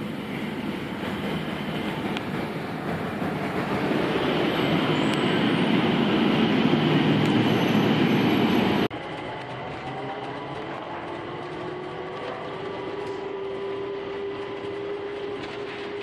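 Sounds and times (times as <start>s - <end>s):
people-mover train running: 0.0s - 16.0s.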